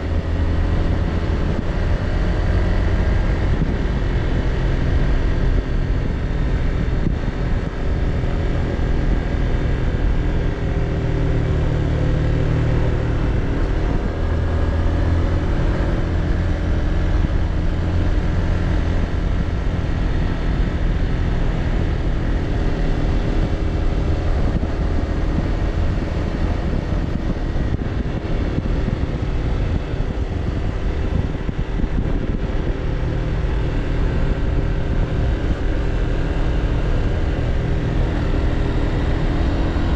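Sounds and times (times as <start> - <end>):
motorbike engine running: 0.0 - 39.9
rushing wind noise: 0.0 - 39.9.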